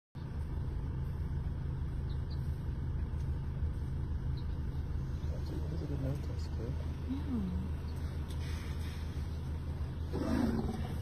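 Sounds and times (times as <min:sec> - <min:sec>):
vehicle engine idling: 0:00.2 - 0:11.0.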